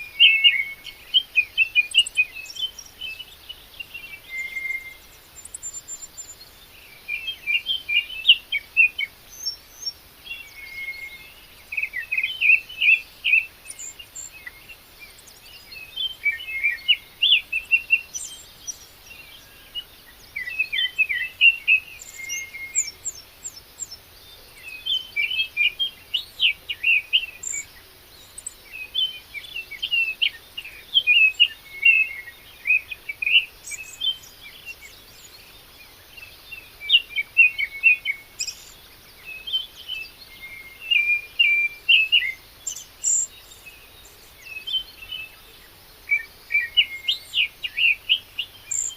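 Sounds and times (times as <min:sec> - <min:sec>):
birds singing: 0:00.0 - 0:48.9.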